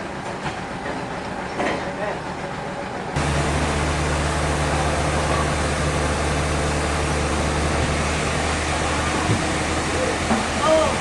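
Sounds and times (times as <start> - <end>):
sawmill machinery hum: 0.0 - 11.0.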